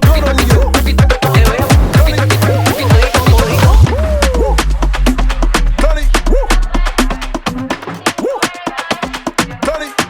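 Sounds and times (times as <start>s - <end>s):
upbeat dance music: 0.0s - 10.0s.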